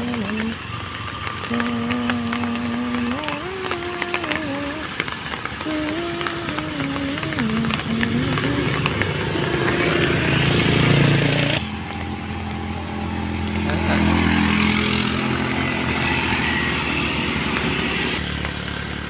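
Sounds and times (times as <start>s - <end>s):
vehicle engines droning: 0.0s - 19.0s.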